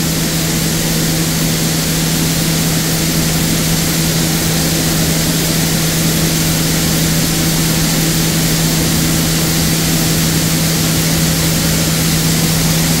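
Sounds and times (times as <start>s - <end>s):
mill machinery droning: 0.0s - 13.0s.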